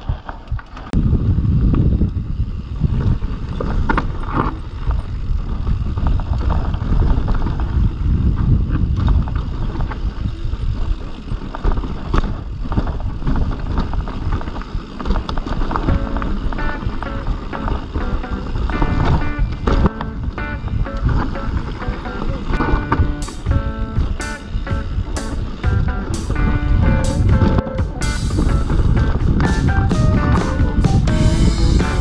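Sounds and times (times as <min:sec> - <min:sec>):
bike knocks and rattles: 0:00.0 - 0:31.1
bike tyre noise: 0:00.0 - 0:32.0
wind rumbling on microphone: 0:00.0 - 0:32.0.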